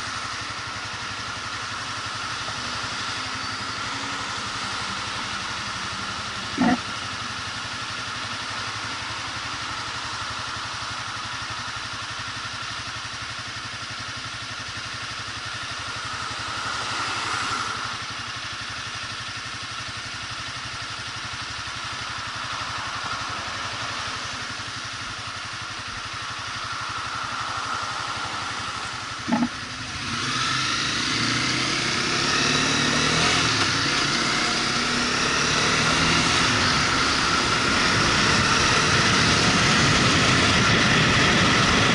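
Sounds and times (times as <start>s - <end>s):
motorcycle engine: 0.0s - 41.9s.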